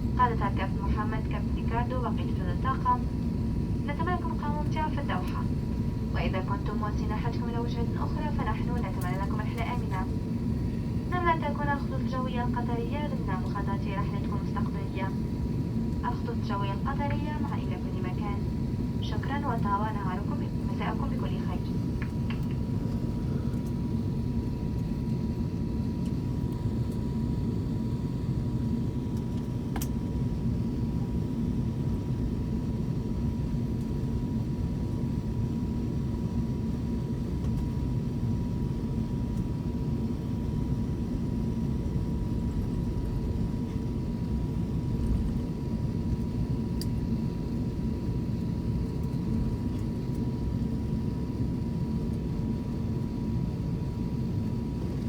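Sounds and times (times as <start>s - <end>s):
aircraft cabin low rumble: 0.0s - 55.0s.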